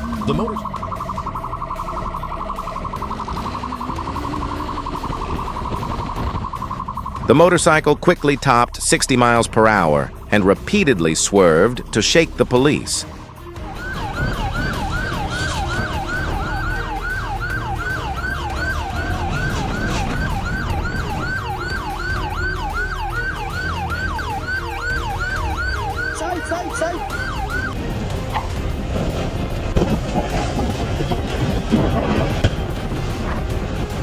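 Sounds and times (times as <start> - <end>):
moving vehicle rumble: 0.0 - 34.0
police siren yelping: 0.0 - 34.0.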